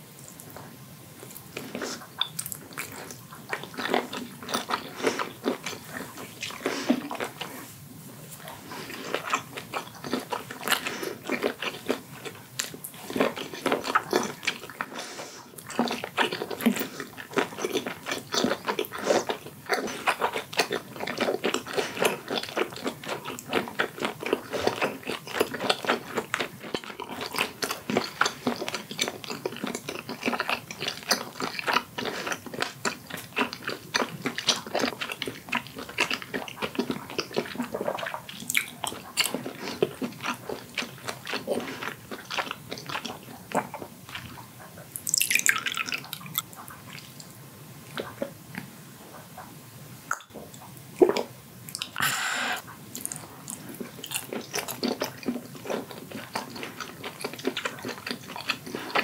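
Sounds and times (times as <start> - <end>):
close chewing mouth clicks: 1.3 - 7.5, 8.4 - 48.7, 50.1 - 59.0.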